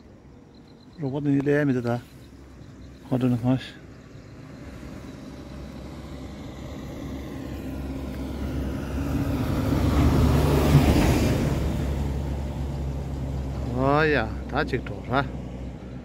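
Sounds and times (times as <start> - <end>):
vehicle passing by: 1.8 - 16.0.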